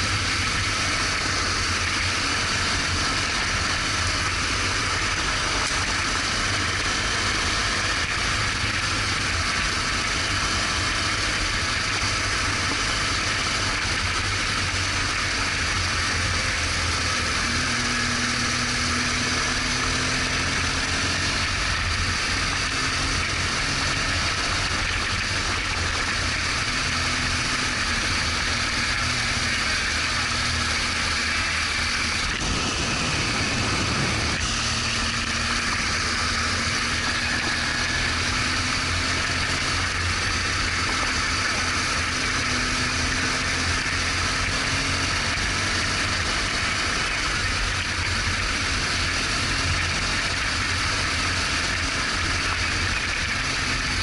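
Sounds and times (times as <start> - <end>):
motorcycle engine running: 0.0 - 54.0
wind and tyre hiss: 0.0 - 54.0.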